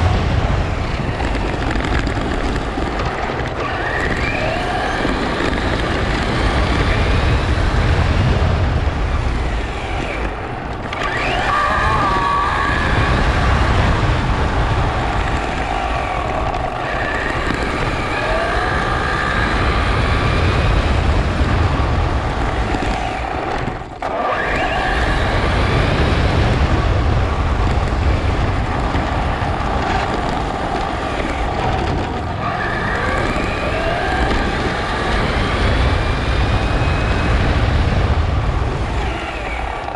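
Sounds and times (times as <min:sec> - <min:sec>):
tyres rumbling on pavement: 0:00.0 - 0:39.9
wind: 0:00.0 - 0:39.9
electric motor whining: 0:03.5 - 0:26.9, 0:27.6 - 0:39.9.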